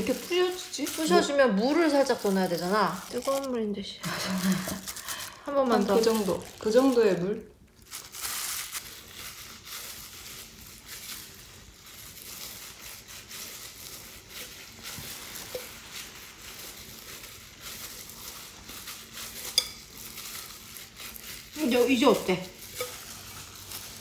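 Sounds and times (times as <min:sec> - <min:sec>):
gloved hands kneading dough: 0:00.0 - 0:24.0.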